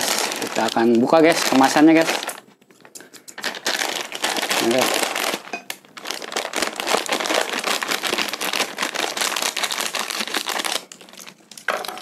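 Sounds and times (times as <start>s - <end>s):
scissors snipping plastic bag: 0.0s - 2.4s, 3.0s - 12.0s
plastic bag rustle: 0.0s - 2.6s, 3.4s - 12.0s.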